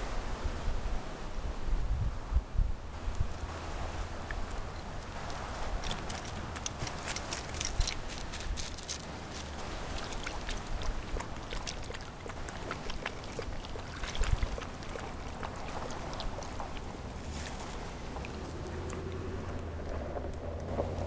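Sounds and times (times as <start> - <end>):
wind rumbling on microphone: 0.0 - 21.0
water lapping at shore: 3.0 - 21.0.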